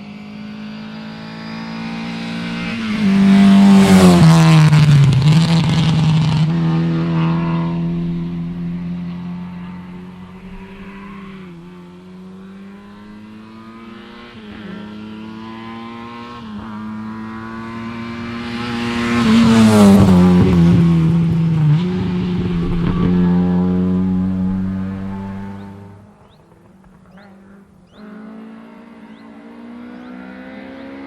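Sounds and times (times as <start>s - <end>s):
rally car engine revving past: 0.0s - 31.0s.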